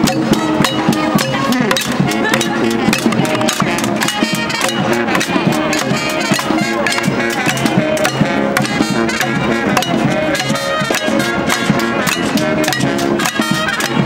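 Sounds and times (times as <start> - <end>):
marching brass band playing: 0.0 - 14.0
steady drumbeat: 0.0 - 14.0.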